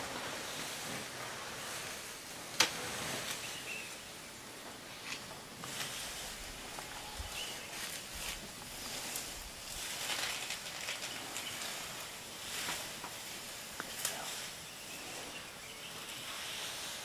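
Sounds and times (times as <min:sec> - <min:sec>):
foliage rustling and crackling: 0:00.0 - 0:17.0.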